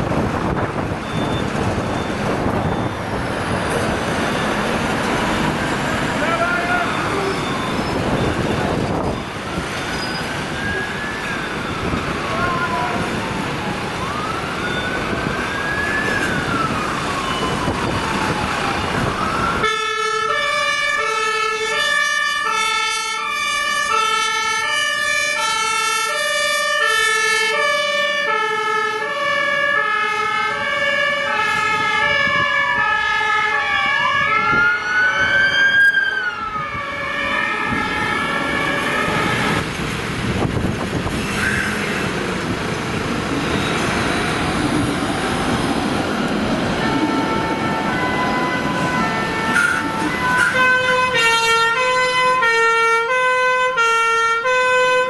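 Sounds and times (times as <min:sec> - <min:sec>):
truck and car engines: 0:00.0 - 0:55.0
two-tone fire engine siren: 0:00.0 - 0:55.0
electronic siren wail: 0:00.1 - 0:39.8, 0:46.6 - 0:55.0.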